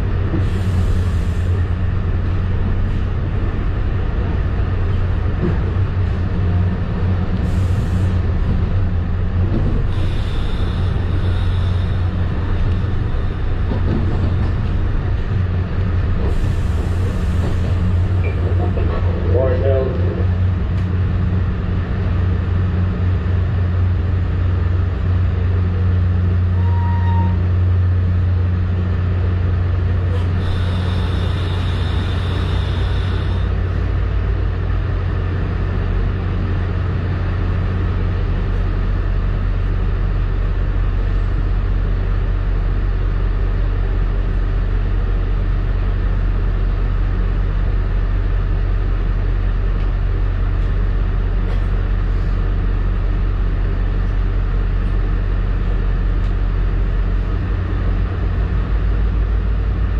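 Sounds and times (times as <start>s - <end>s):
low hum inside train coach: 0.0s - 59.9s.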